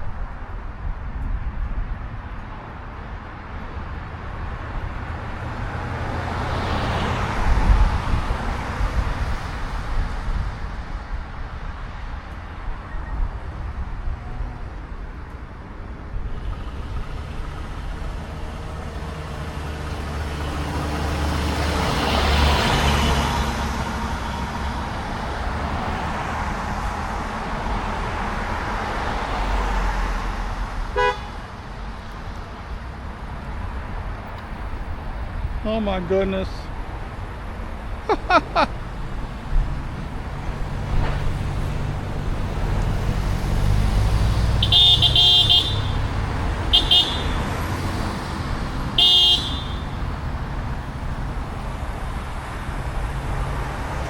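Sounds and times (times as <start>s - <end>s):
traffic: 0.0s - 54.0s
wind: 0.0s - 54.0s.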